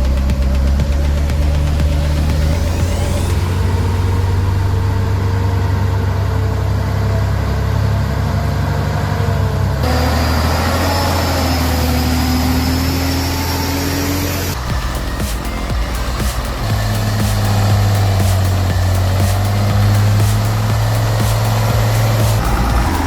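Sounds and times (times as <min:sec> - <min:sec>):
higher-pitched engine running: 0:00.0 - 0:23.0
truck engine rumbling: 0:00.0 - 0:23.0.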